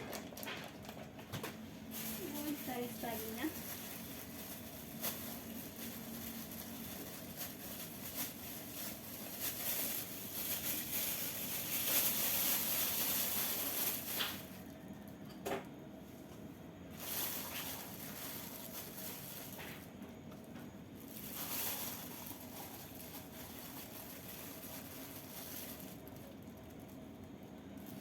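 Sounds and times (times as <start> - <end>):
rustling and scraping in bowl: 0.0 - 14.7, 16.9 - 20.0, 21.0 - 26.3.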